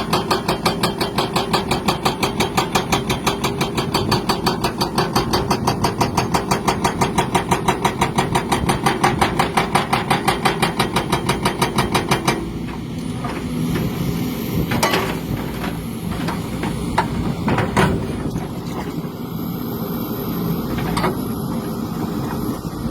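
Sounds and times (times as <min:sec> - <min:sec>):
engine running with rhythmic knock: 0:00.0 - 0:22.9.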